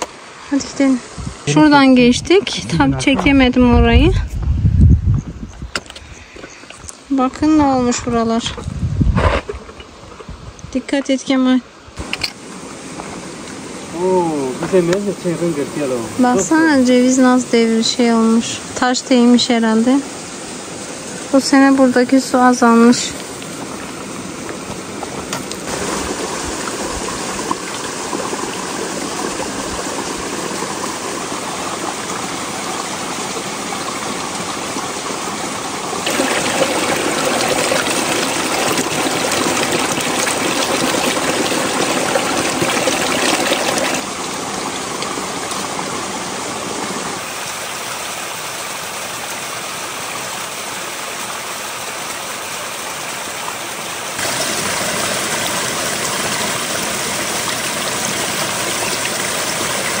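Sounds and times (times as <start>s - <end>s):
stream water splashing over rocks: 0.0s - 4.1s, 12.0s - 60.0s.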